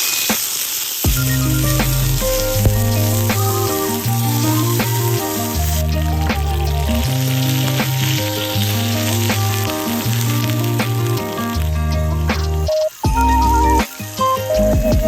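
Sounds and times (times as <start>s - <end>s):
sizzling hiss: 0.0s - 15.0s
background music with beat: 1.0s - 15.0s.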